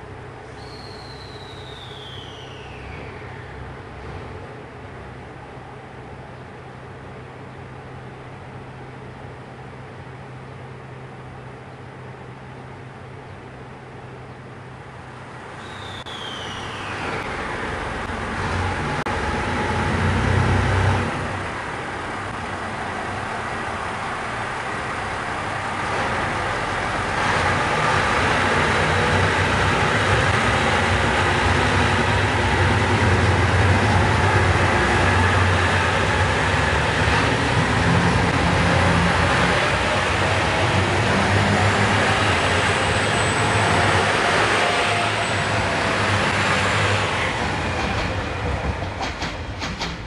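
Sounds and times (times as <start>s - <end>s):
diesel train engines rumbling: 0.0s - 50.0s.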